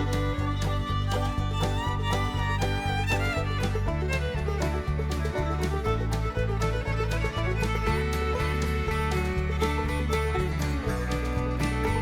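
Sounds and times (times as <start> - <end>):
music with strings and beat: 0.0 - 12.0.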